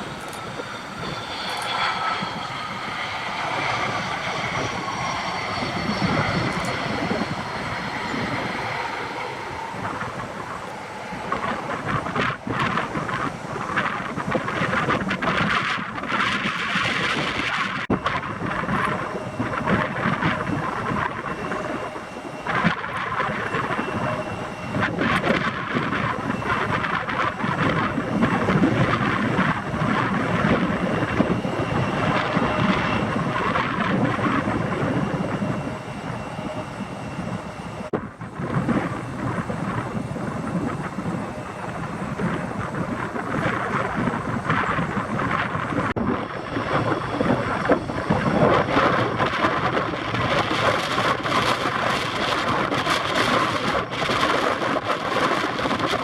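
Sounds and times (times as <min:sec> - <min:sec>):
aircraft engines running: 0:00.0 - 0:56.0
wind buffeting microphone: 0:00.0 - 0:56.0.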